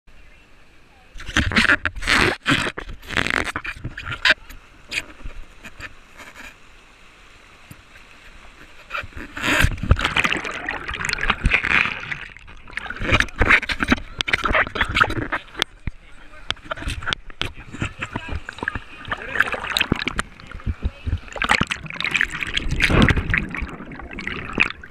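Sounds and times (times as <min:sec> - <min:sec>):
river water rushing and splashing: 0:04.4 - 0:24.9.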